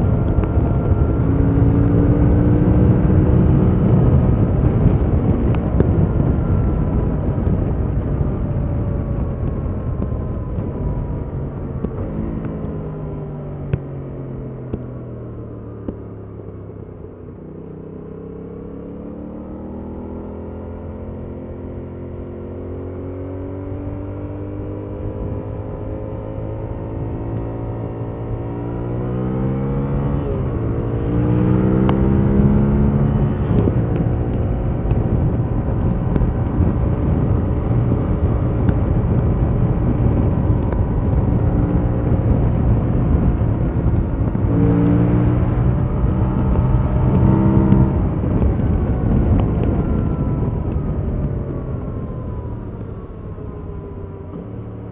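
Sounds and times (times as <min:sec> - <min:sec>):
wind rush: 0:00.0 - 0:14.4, 0:22.9 - 0:54.9
motorcycle engine accelerating: 0:00.0 - 0:54.9.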